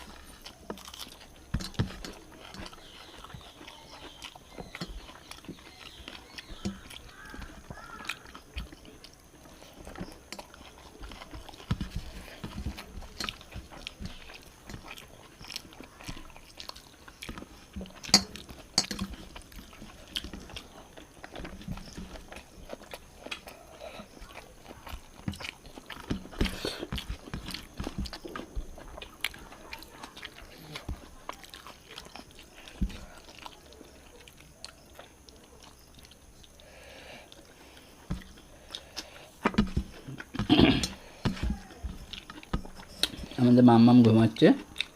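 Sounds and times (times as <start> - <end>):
chewing: 0.0 - 44.9
mixing food by hand: 0.0 - 44.9.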